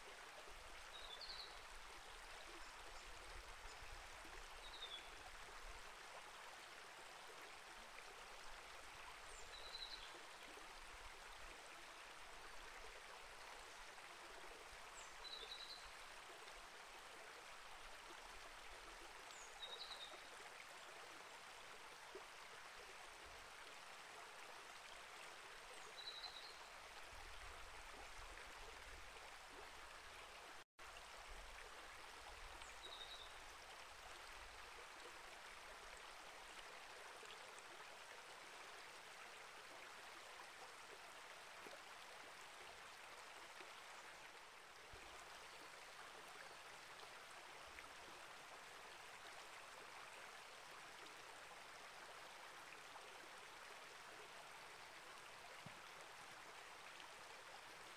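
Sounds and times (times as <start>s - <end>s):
creek trickling over rocks: 0.0s - 57.9s.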